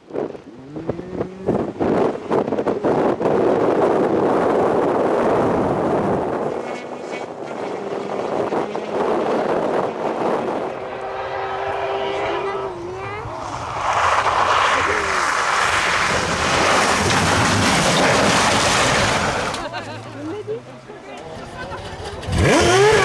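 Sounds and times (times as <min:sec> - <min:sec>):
engine crackles: 0:00.1 - 0:23.0
rally car passing at speed: 0:00.2 - 0:23.0.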